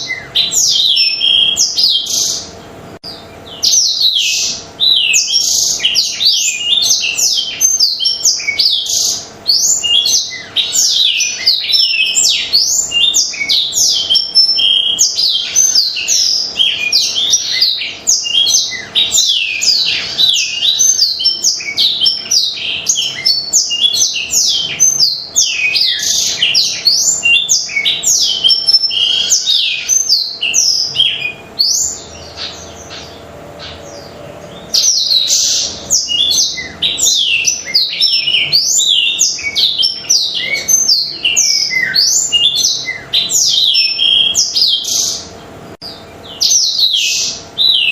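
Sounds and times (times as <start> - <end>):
canary singing chirps and trills: 0.0 - 47.9.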